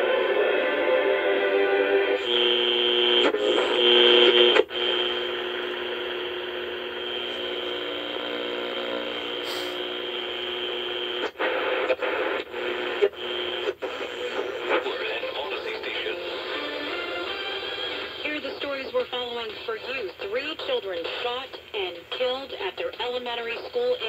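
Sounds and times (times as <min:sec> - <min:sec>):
radio static hiss: 0:02.2 - 0:24.0.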